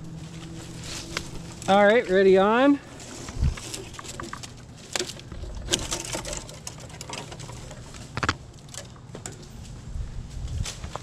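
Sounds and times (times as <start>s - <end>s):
clicks knocks and rustles in tree: 0.4s - 2.0s, 2.9s - 9.8s, 10.4s - 11.0s.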